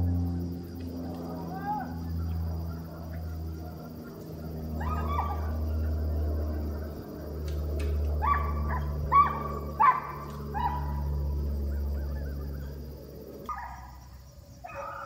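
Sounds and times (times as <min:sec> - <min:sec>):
hounds baying: 0:01.2 - 0:07.3, 0:08.1 - 0:15.0.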